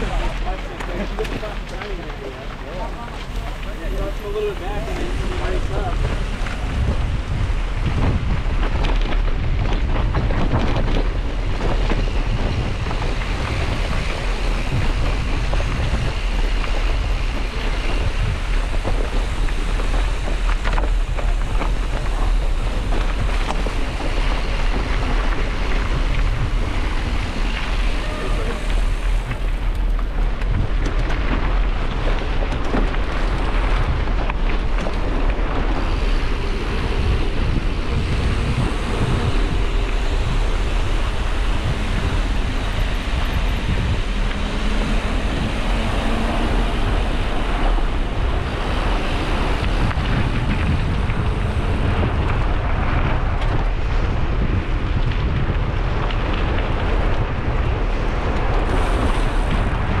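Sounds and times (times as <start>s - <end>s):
wind rumble on microphone: 0.0s - 60.0s.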